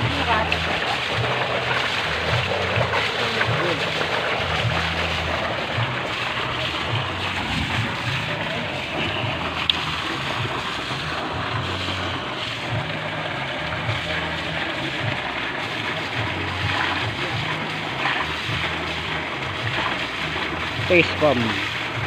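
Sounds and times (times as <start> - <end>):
water gushing from a pipe: 0.0 - 22.0.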